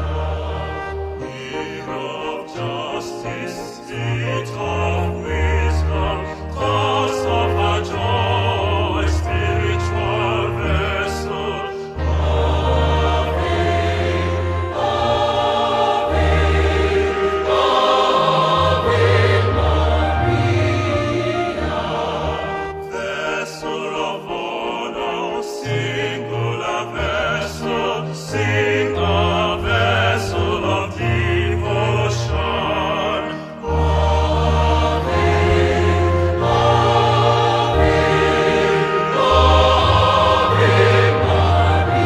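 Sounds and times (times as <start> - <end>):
choir singing: 0.0 - 42.0
instrumental accompaniment: 0.0 - 42.0.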